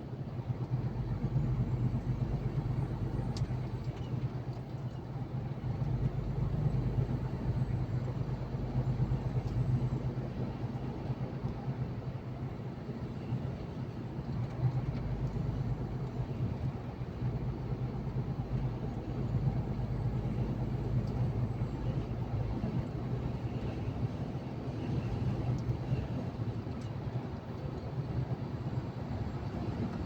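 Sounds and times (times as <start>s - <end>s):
road noise: 0.0s - 30.0s
truck engine drone: 0.2s - 30.0s.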